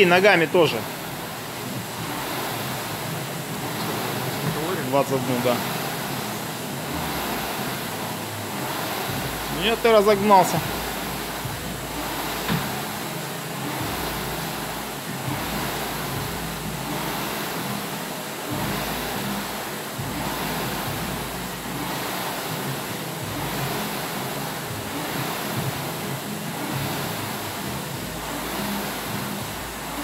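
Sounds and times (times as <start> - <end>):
rowing machine fan whooshing: 0.0 - 30.0.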